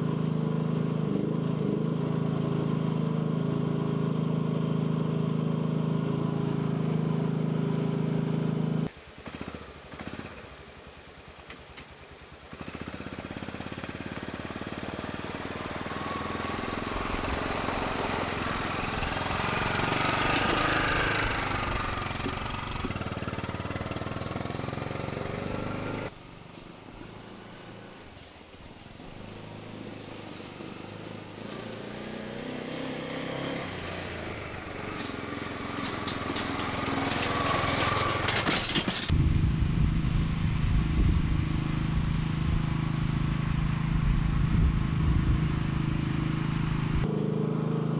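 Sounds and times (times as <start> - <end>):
rattling engine and machine clatter: 0.0 - 47.9
small excavator engine running: 0.0 - 47.9.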